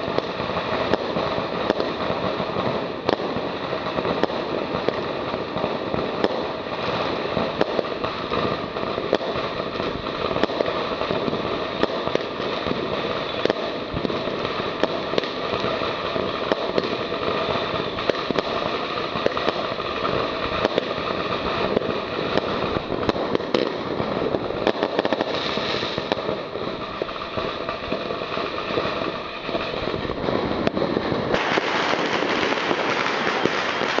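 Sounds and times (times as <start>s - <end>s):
fireworks launching and bursting: 0.0s - 34.0s.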